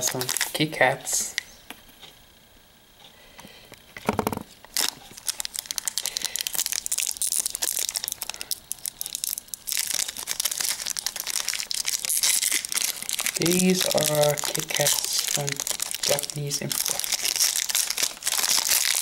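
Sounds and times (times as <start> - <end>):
plastic wrapper crinkling: 0.0 - 0.8, 4.1 - 19.0.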